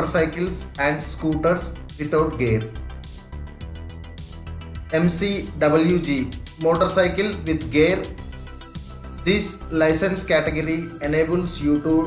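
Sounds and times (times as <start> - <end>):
instrumental music with low bass: 0.0 - 12.0.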